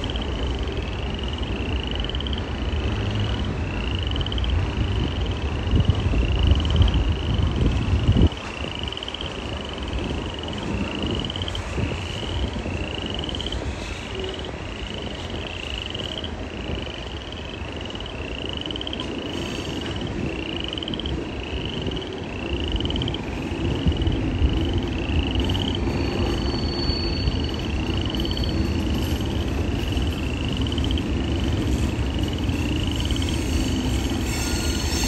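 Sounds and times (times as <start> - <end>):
frogs trilling: 0.0 - 7.5, 8.2 - 35.0
freight cars rumbling past: 0.0 - 35.0.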